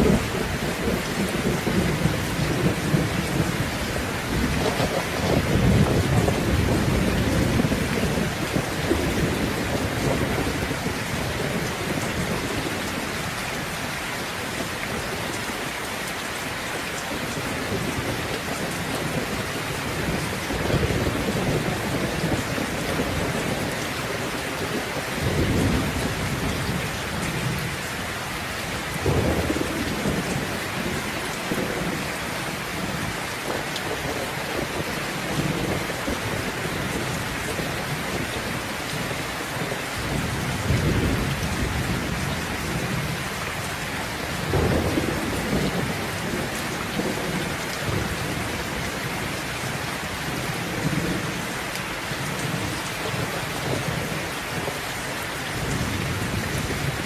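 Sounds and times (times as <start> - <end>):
thunder rumbling: 0.0 - 15.3, 17.1 - 54.8
heavy rain hissing: 0.0 - 57.0.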